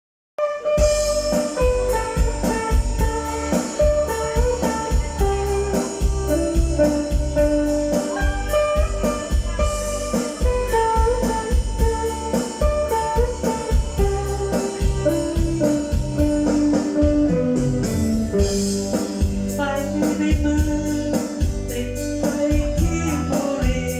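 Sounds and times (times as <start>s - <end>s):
guitar music with drums: 0.6s - 23.9s.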